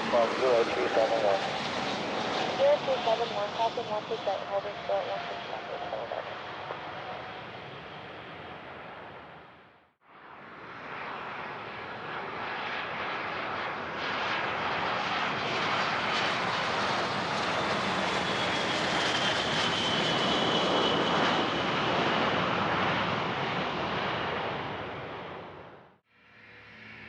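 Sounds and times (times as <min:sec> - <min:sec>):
jet engines passing: 0:00.0 - 0:25.9.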